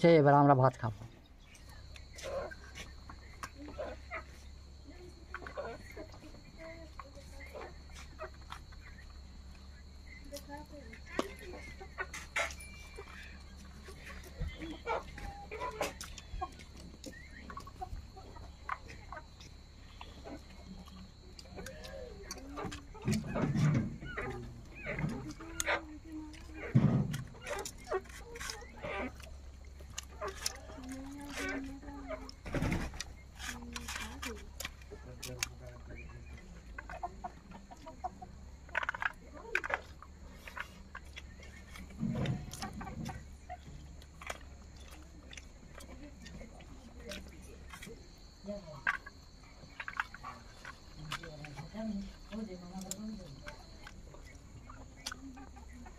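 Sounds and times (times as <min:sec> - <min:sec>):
chickens clucking: 0:00.1 - 0:55.9.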